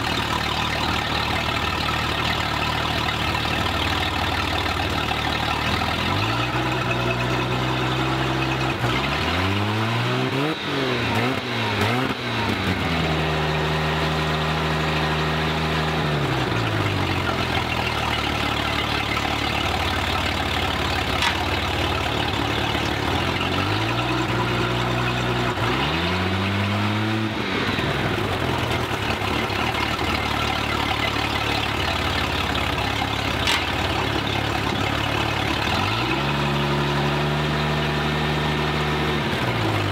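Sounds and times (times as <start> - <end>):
boat engine revving: 0.0 - 39.9.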